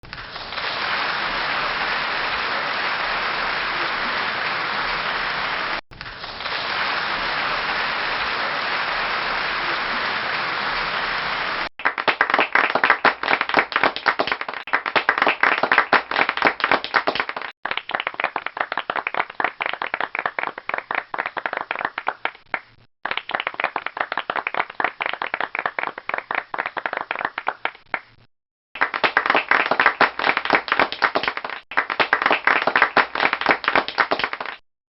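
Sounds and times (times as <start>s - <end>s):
large crowd applauding: 0.0s - 28.1s, 28.8s - 34.6s
small group clapping: 0.0s - 28.2s, 28.8s - 34.6s.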